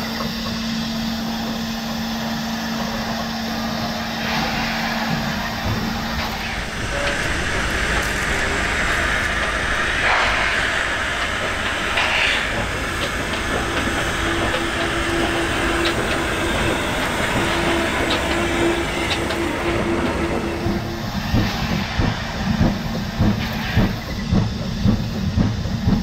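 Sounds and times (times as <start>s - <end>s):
steam hissing: 0.0s - 26.0s
train wheels clicking over rails: 0.0s - 26.0s.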